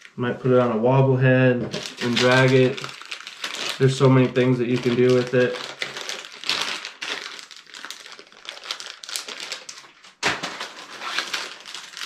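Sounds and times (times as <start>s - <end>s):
plastic package crinkling: 1.7s - 12.0s.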